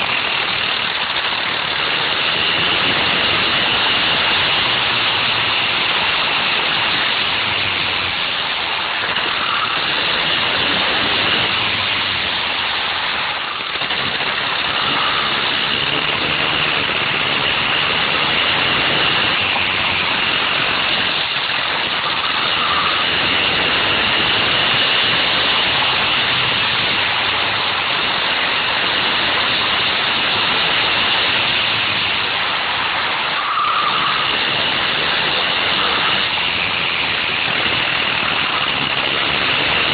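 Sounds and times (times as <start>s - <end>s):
go-kart engine droning: 0.0s - 39.9s.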